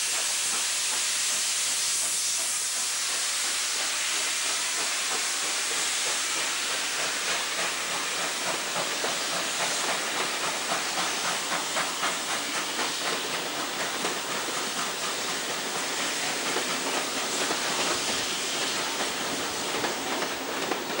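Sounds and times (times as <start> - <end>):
steam locomotive hissing: 0.0 - 21.0
train wheels clattering: 0.0 - 21.0.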